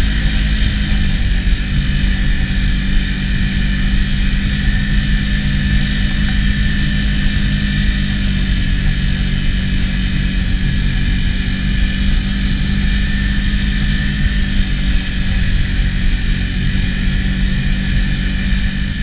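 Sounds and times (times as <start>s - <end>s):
atv engine running: 0.0s - 19.0s
high whine: 0.0s - 19.0s.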